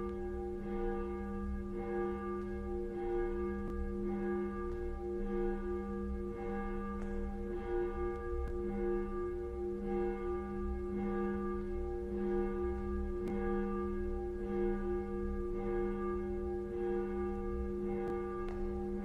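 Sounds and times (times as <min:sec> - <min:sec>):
church bell ringing: 0:00.0 - 0:19.0.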